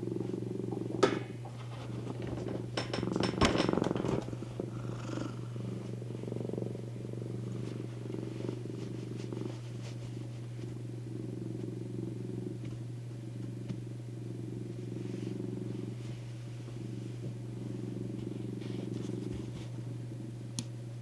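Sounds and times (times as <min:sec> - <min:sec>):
cat purring: 0:00.0 - 0:20.6.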